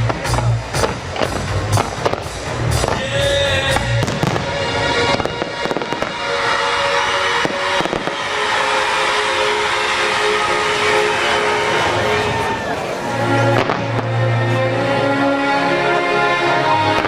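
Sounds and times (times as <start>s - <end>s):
fireworks bursting with bangs: 0.0s - 14.2s
music soundtrack: 0.0s - 17.0s.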